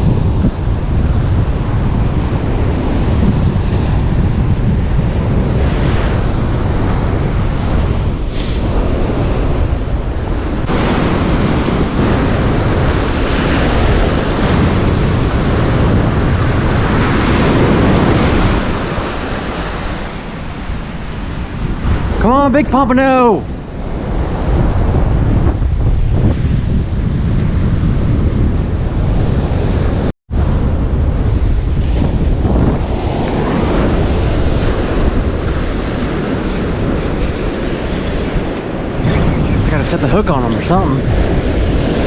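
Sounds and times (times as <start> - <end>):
wind buffeting microphone: 0.0 - 42.0
breaking surf: 0.1 - 25.4, 29.5 - 42.0.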